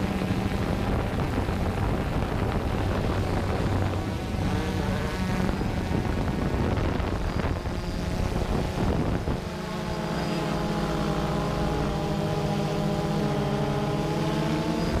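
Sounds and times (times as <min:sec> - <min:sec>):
drone propellers buzzing: 0:00.0 - 0:15.0
wind on microphone: 0:00.0 - 0:15.0.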